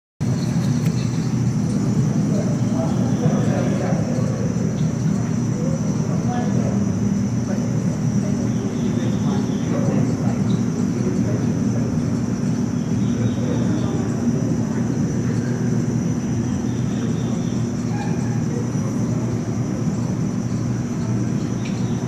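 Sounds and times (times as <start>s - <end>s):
murmur of distant voices: 0.2s - 22.0s.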